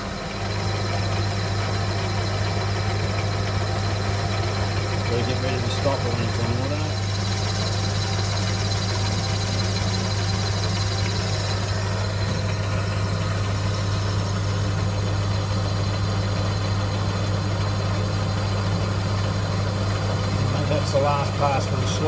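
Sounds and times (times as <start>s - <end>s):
metal lathe motor hum: 0.0s - 22.0s.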